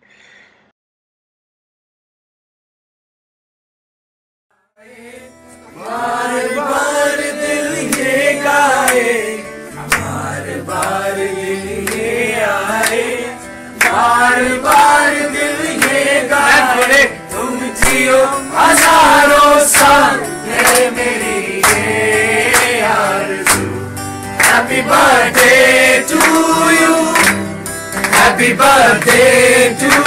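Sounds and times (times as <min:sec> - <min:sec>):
group of voices singing: 0:04.8 - 0:30.0.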